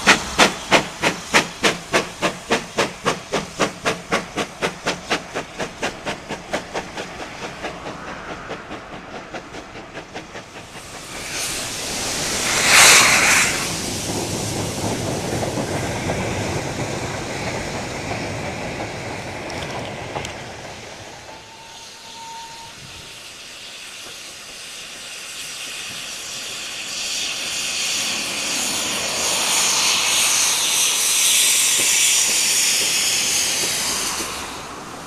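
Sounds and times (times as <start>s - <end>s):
steam locomotive hissing: 0.0s - 35.0s
train wagons rumbling past: 0.0s - 35.0s.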